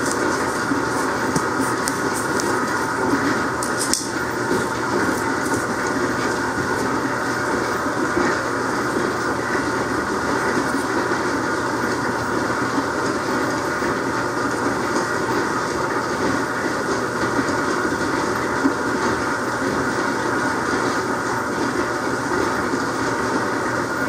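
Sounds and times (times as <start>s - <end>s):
rock tumbler rattling and humming: 0.0s - 23.6s.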